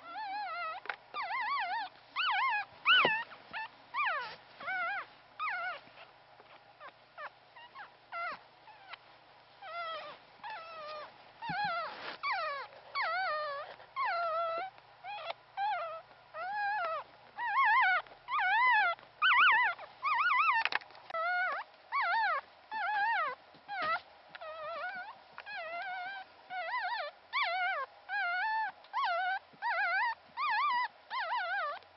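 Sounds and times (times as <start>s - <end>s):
puppy whimpering: 0.0s - 9.0s, 9.6s - 31.9s.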